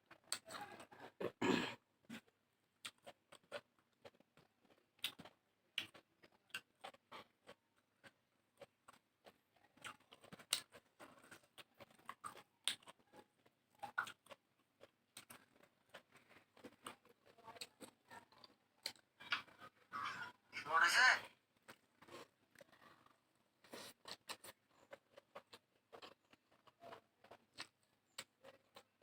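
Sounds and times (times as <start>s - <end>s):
person chewing food: 0.1s - 20.5s, 21.4s - 29.0s.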